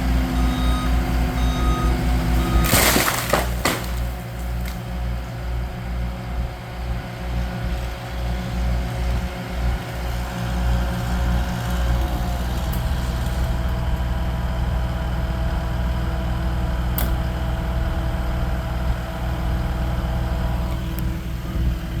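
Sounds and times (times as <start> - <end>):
large engine running: 0.0 - 22.0.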